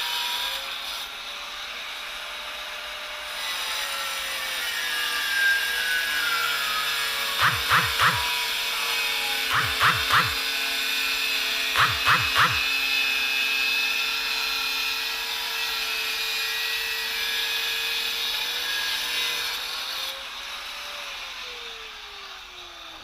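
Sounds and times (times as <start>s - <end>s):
power tool whining: 0.0s - 23.0s.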